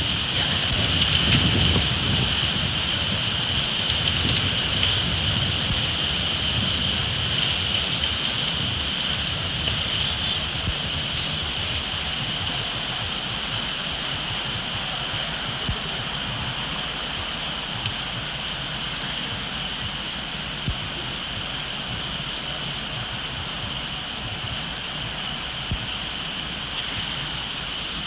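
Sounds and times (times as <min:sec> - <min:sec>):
strong wind gusting on microphone: 0:00.0 - 0:28.0.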